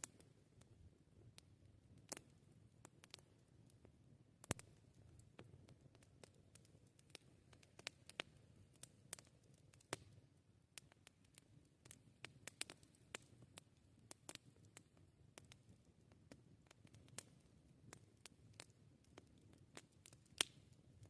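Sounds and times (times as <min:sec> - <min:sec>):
campfire crackling and popping: 0:00.0 - 0:21.0
low rumble of burning: 0:00.0 - 0:21.0.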